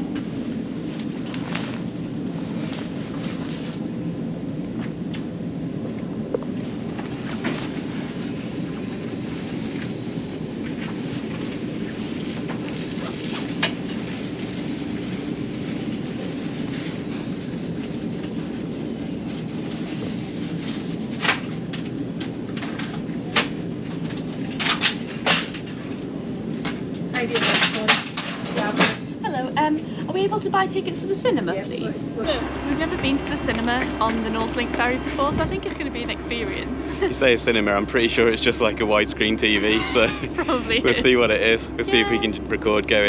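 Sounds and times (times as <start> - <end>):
ferry engines rumbling: 0.0 - 43.0.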